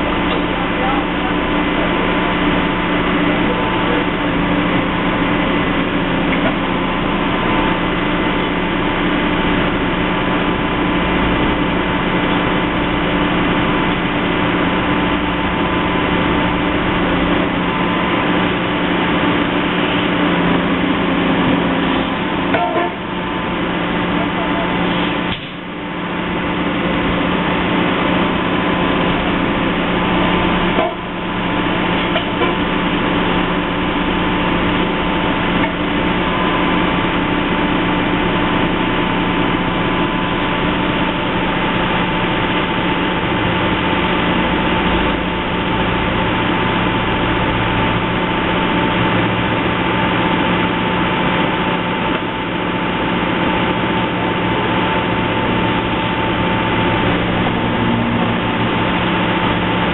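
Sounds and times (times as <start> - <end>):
heavy machinery engine drone: 0.0 - 59.9.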